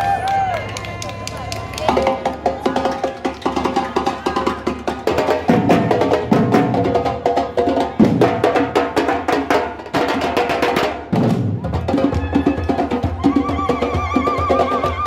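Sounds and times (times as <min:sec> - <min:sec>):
samba drums and percussion: 0:00.0 - 0:15.0.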